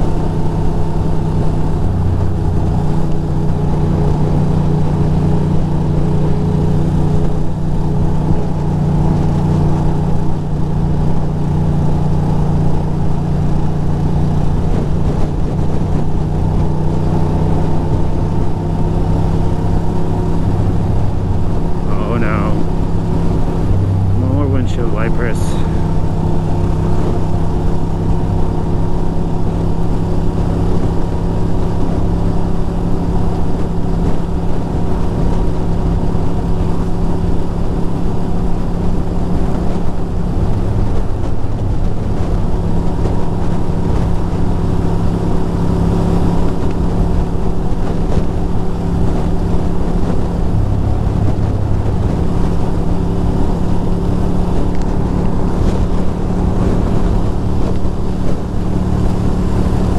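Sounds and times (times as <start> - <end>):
wind noise on microphone: 0.0 - 24.2, 25.6 - 59.9
motorcycle engine running: 0.0 - 59.9.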